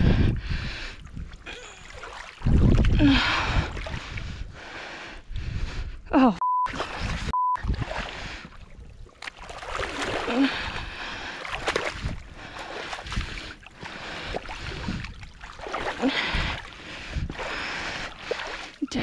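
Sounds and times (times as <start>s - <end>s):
water splashing around legs: 1.0s - 4.2s, 6.7s - 19.0s.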